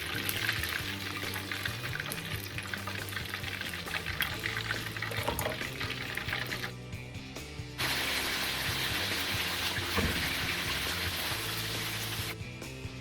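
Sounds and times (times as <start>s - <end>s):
oil bubbling and crackling: 0.0s - 6.7s, 7.8s - 12.4s.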